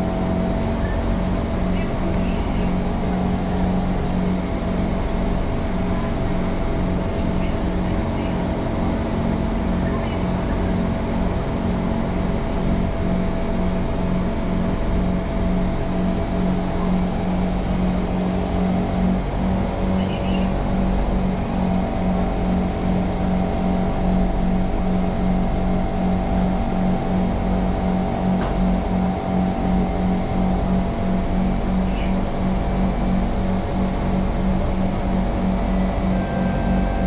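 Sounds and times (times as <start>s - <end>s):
low repeating pulse: 0.0s - 37.0s
train rumble: 0.0s - 37.0s.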